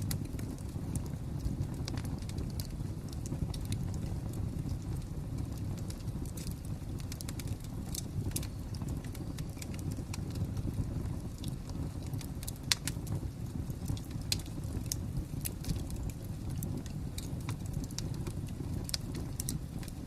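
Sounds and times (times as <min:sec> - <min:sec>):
steady low rumble: 0:00.0 - 0:20.0
wood fire crackling: 0:00.0 - 0:20.0.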